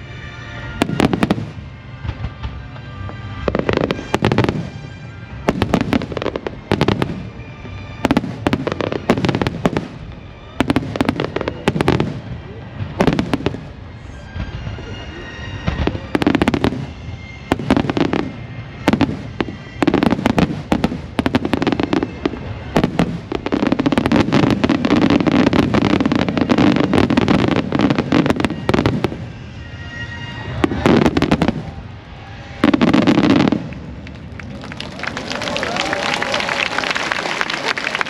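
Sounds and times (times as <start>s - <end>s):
fireworks crackles: 0.0s - 38.0s
fireworks bangs with rumbling echo: 0.6s - 14.8s, 15.4s - 34.3s.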